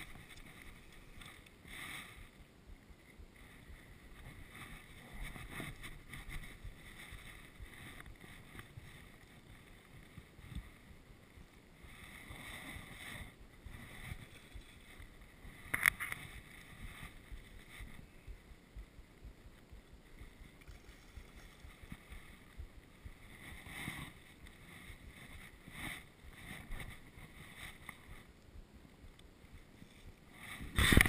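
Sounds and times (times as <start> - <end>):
rustling of fly rod and line: 0.0 - 31.0
wind on microphone: 0.0 - 31.0.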